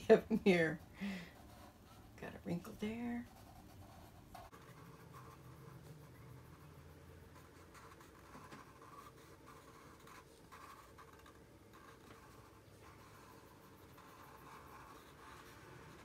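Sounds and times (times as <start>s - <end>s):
marker scratching on paper: 0.1s - 16.0s.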